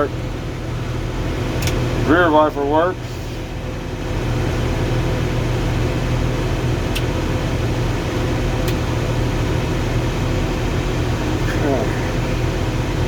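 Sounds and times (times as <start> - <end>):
air-conditioning blower hissing: 0.0 - 13.0
diesel engine running: 0.0 - 13.0.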